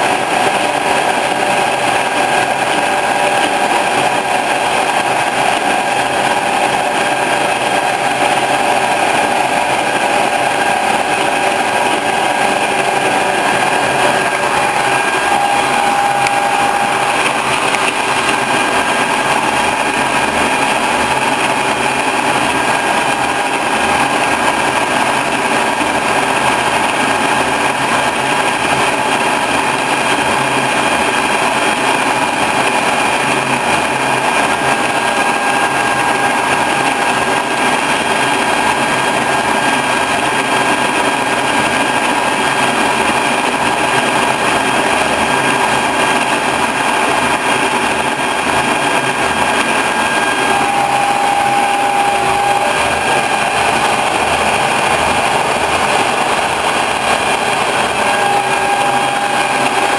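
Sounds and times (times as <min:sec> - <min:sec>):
boring mill whining: 0:00.0 - 0:59.9
metal cutting noise: 0:00.0 - 0:59.9.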